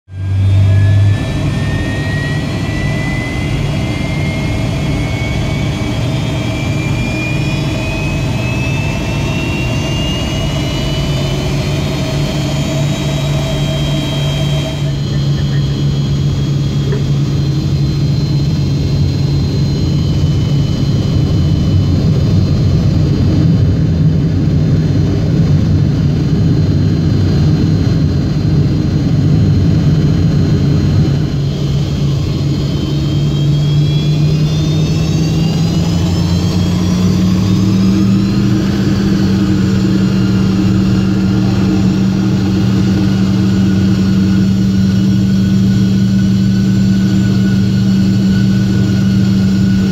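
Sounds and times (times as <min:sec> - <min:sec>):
jet engine hum and whine: 0:00.1 - 0:49.9.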